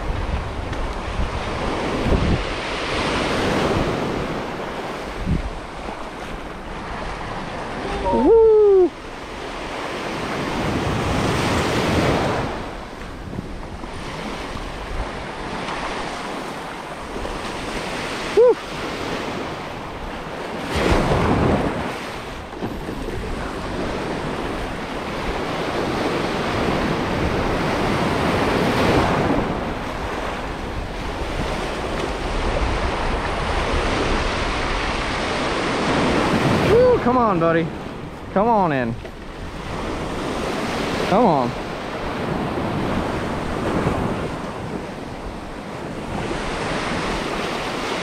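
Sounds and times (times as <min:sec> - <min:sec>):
surf breaking at shoreline: 0:00.0 - 0:48.0
wind buffeting microphone: 0:00.0 - 0:48.0.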